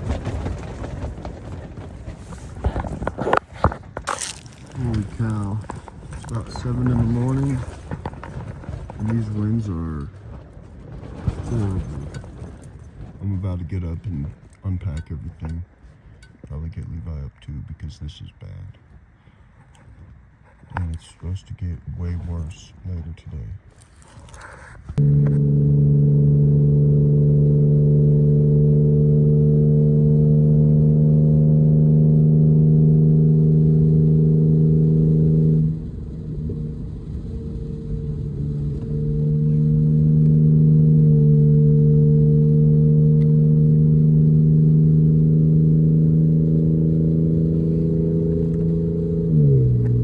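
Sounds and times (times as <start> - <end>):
vehicle engine running: 0.0 - 18.6, 20.8 - 50.0.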